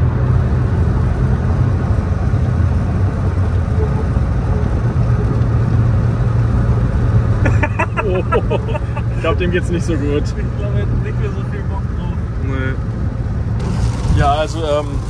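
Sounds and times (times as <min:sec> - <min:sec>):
car engine drone: 0:00.0 - 0:15.0
wet road noise: 0:00.0 - 0:15.0.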